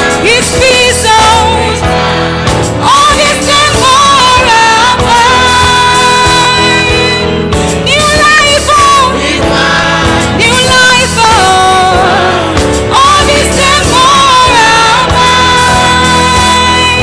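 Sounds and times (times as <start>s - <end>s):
electronic keyboard chords: 0.0s - 17.0s
woman singing lead melody: 0.0s - 17.0s
choir singing: 1.3s - 6.9s, 8.6s - 17.0s.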